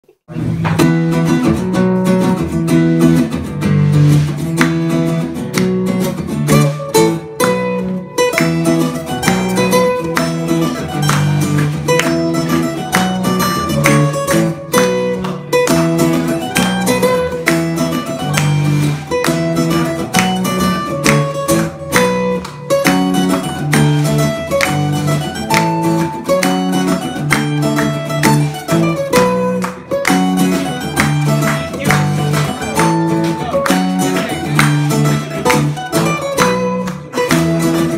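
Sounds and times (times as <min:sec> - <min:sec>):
acoustic guitars strumming: 0:00.3 - 0:37.9.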